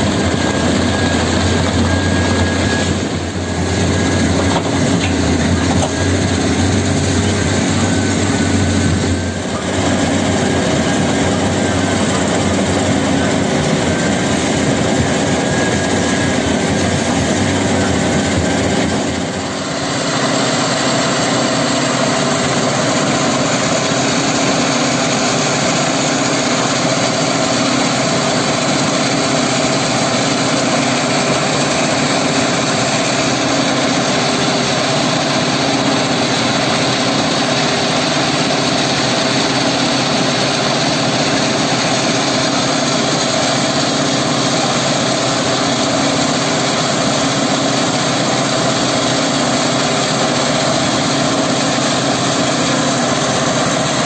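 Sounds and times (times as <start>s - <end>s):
loud machinery noise with hum: 0.0s - 54.0s.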